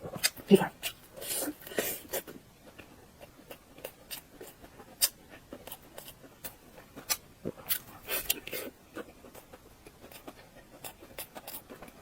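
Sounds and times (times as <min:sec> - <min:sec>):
biting and chewing: 0:00.0 - 0:12.0
mouth clicks and smacks: 0:00.0 - 0:12.0.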